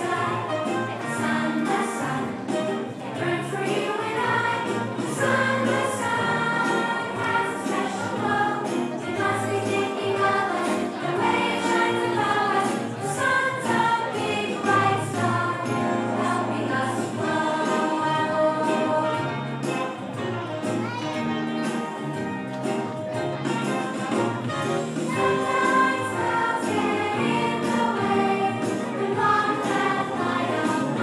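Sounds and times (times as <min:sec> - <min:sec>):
children's choir singing: 0:00.0 - 0:20.1, 0:23.6 - 0:31.0
instrumental accompaniment: 0:00.0 - 0:31.0.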